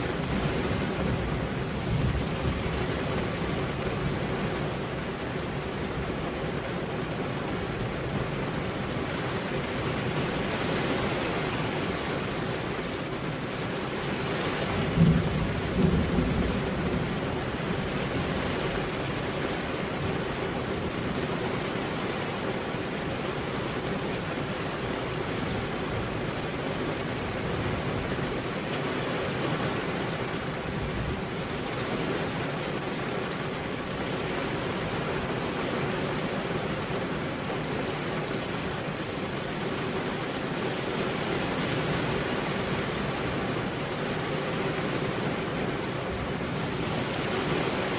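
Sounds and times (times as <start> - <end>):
heavy rain on a road: 0.0 - 47.9.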